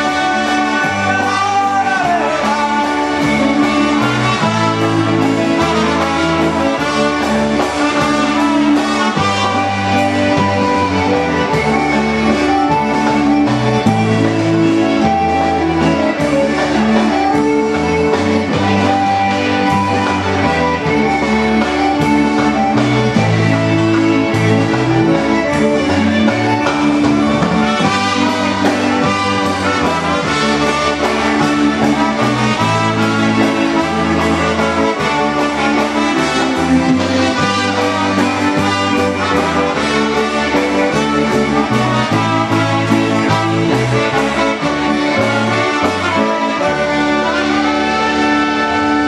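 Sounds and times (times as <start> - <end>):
polka band playing a waltz: 0.0 - 49.0.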